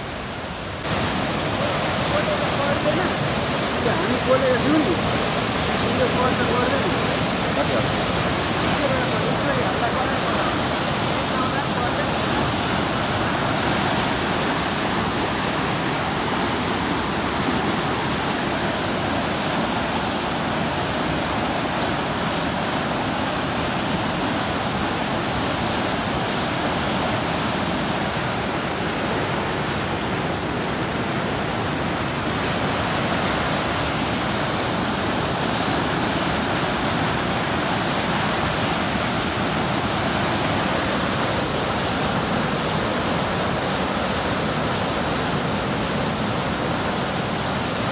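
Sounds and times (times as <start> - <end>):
flooded river rushing: 0.0 - 47.9.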